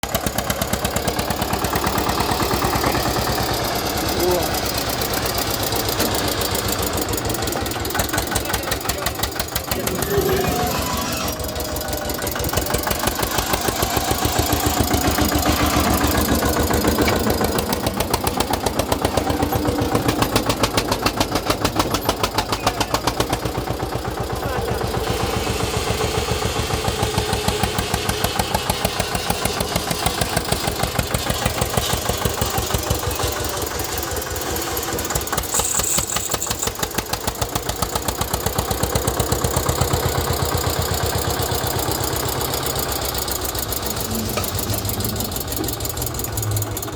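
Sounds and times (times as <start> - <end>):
tractor diesel engine knocking: 0.0 - 46.9.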